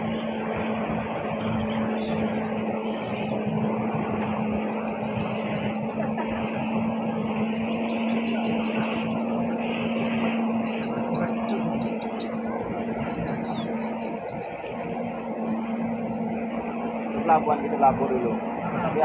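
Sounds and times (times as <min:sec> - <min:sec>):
speedboat engine droning: 0:00.0 - 0:19.0
water rushing along hull: 0:00.0 - 0:19.0.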